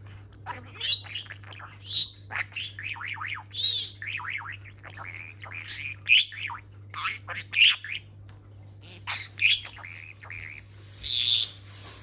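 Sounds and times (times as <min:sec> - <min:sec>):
budgerigar chattering: 0:00.5 - 0:08.0, 0:08.8 - 0:11.5.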